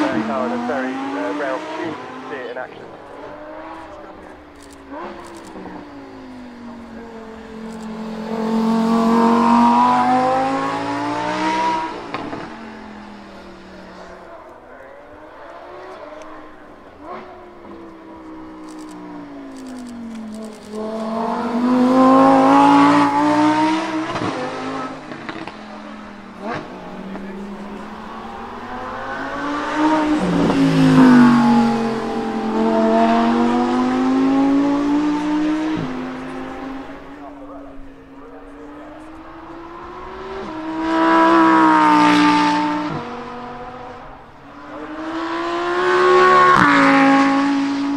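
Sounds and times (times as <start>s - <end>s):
sports car accelerating past: 0.0s - 47.9s.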